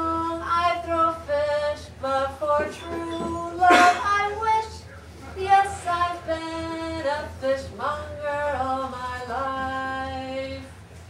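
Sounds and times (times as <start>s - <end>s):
unaccompanied singing voices: 0.0s - 10.8s.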